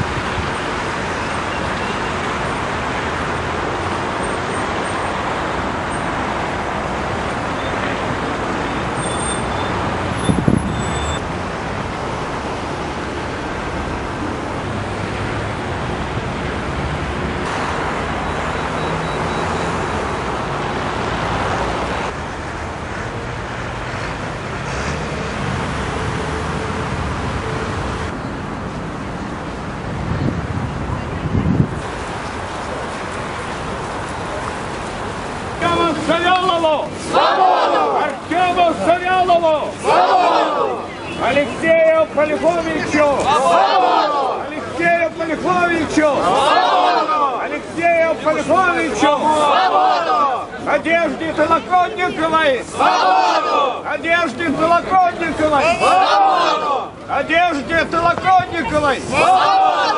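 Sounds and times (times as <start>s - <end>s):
busy street traffic: 0.0s - 59.9s.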